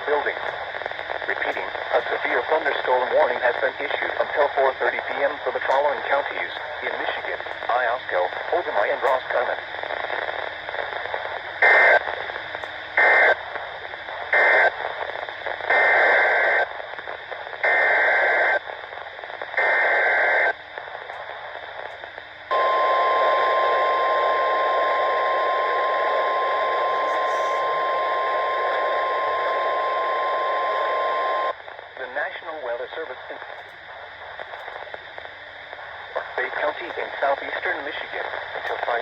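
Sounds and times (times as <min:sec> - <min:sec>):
radio hiss: 0:00.0 - 0:39.0.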